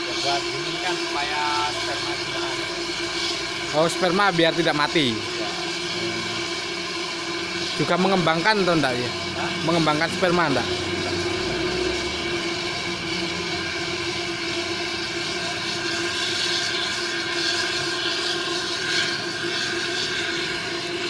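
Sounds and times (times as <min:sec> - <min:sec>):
liquid nitrogen hissing rush: 0:00.0 - 0:21.0
machine hum: 0:00.0 - 0:21.0.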